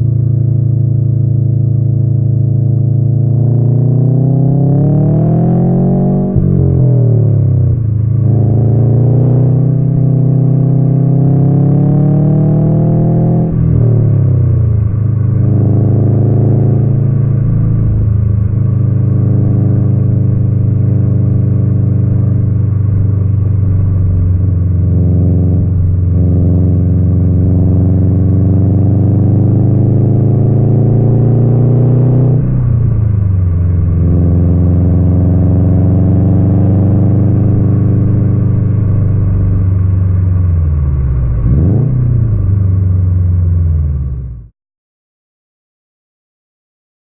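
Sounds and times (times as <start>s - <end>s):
car engine and exhaust rumble: 0.0s - 44.5s.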